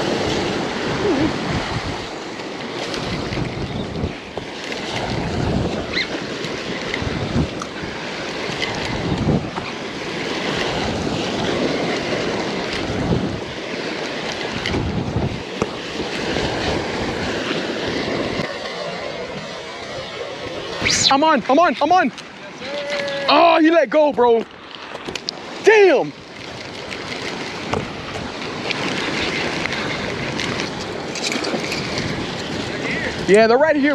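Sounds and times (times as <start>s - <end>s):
wind buffeting microphone: 0.0s - 23.3s, 24.0s - 33.9s
waves splashing against rocks: 0.0s - 33.9s.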